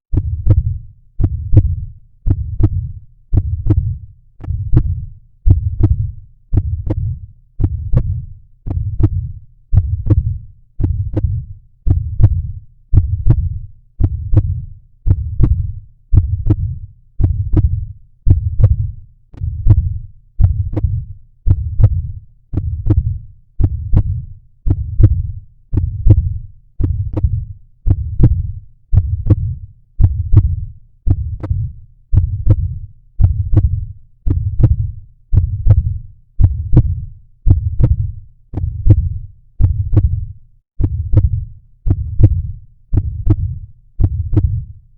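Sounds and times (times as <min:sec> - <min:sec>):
heartbeat thumps: 0:00.1 - 0:44.9.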